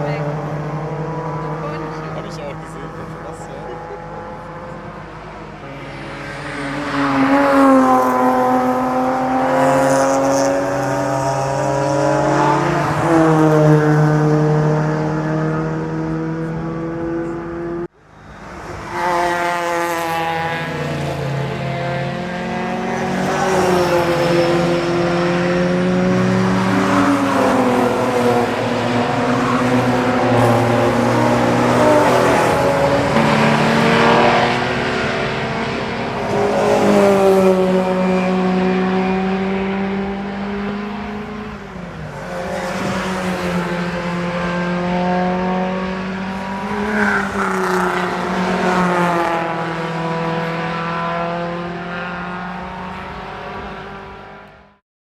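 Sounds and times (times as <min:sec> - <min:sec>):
racing car engines at full throttle: 0:00.0 - 0:54.8.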